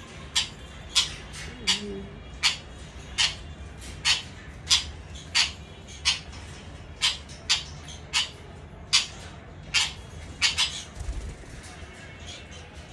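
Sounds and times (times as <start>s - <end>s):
parrot chirping: 0.2s - 11.5s.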